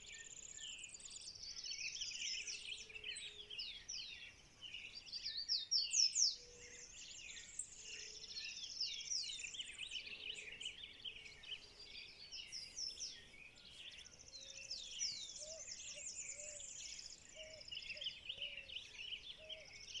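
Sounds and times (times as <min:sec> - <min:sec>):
birds singing and chirping: 0:00.0 - 0:20.0
low repeated bird calls: 0:02.0 - 0:20.0.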